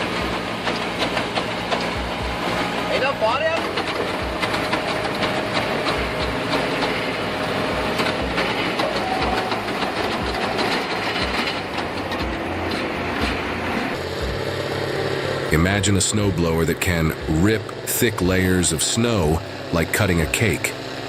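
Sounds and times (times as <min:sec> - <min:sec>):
heavy machinery running: 0:00.0 - 0:21.0.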